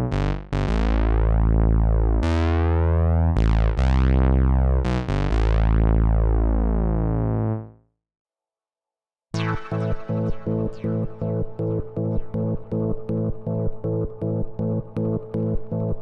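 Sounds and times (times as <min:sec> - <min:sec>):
deep buzzy synthesizer notes: 0:00.0 - 0:07.8, 0:09.4 - 0:16.0.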